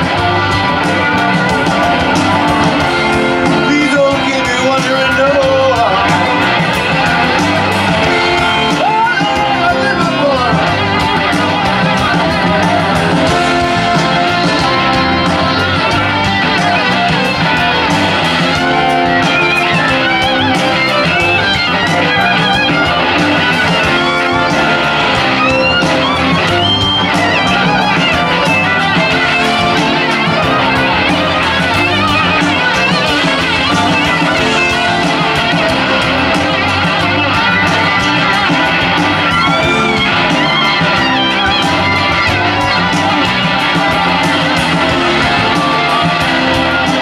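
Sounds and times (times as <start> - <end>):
electric guitar solo: 0.0 - 47.0
rock band playing: 0.0 - 47.0.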